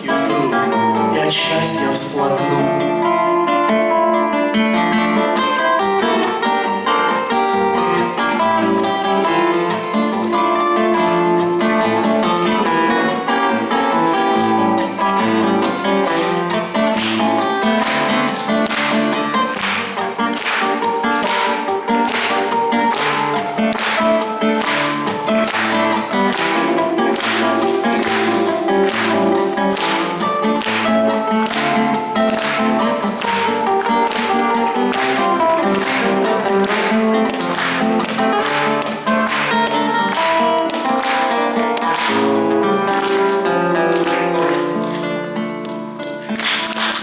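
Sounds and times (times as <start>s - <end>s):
acoustic guitar strumming: 0.0s - 47.0s.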